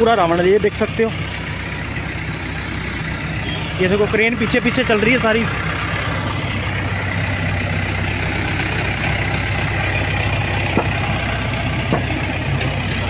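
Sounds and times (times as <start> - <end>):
diesel crane engine running: 0.0 - 13.0.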